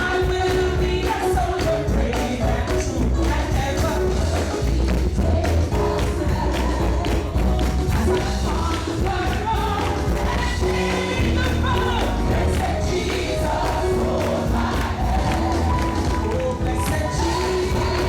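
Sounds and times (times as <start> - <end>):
live gospel music: 0.0 - 18.0.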